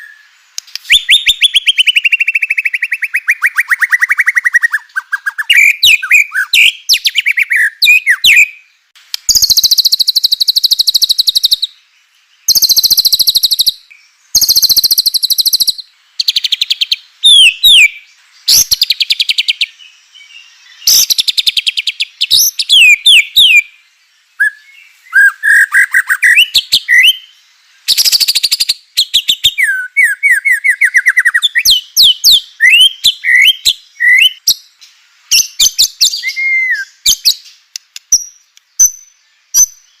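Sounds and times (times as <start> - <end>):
songbird singing trills and whistles: 0.0 - 40.0.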